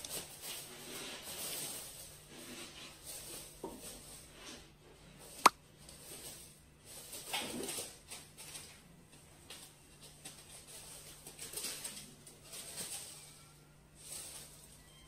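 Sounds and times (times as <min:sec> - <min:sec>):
cat pawing through rice: 0:00.0 - 0:14.8.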